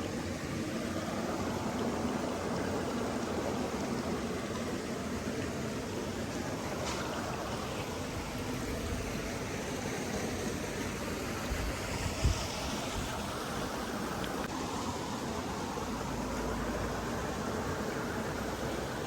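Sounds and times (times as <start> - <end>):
steady rushing outdoor noise: 0.0 - 19.0.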